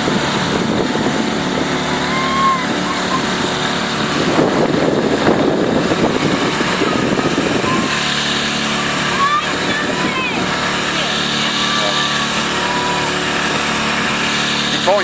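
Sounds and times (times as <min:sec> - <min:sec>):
rough rushing noise: 0:00.0 - 0:15.0
small boat engine running: 0:00.0 - 0:15.0.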